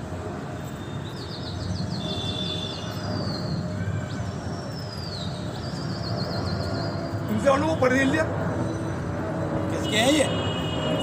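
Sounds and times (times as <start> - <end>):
low city rumble: 0.0 - 11.0.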